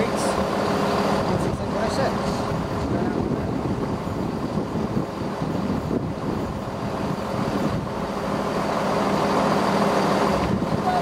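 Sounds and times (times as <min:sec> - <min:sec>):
train engines humming: 0:00.0 - 0:11.0
wheel and rail noise: 0:00.0 - 0:11.0.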